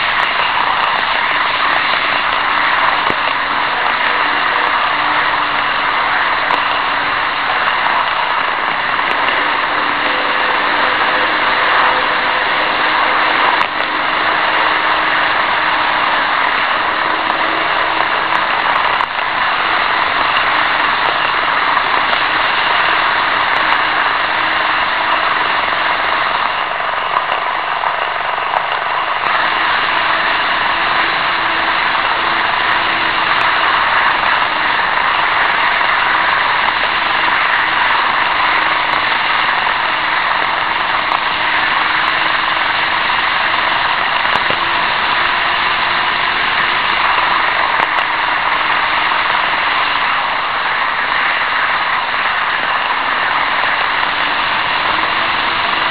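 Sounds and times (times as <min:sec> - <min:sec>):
model train wheels rattling on track: 0:00.0 - 0:55.9
small electric motors humming: 0:00.0 - 0:55.9.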